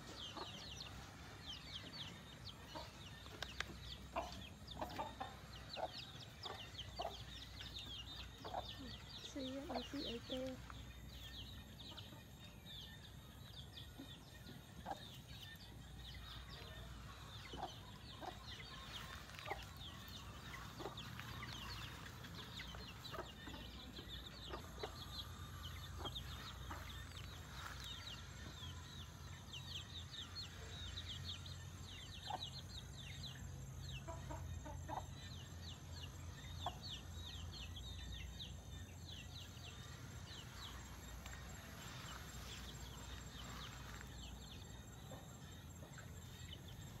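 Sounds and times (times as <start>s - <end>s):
chickens clucking and chirping: 0.0s - 47.0s.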